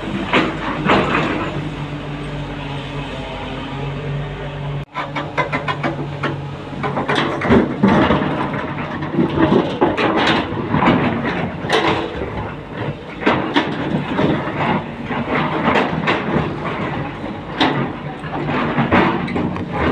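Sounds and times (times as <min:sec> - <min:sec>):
metallic clanking and knocking: 0:00.0 - 0:01.7, 0:04.9 - 0:19.9
machinery rumble: 0:00.0 - 0:19.9.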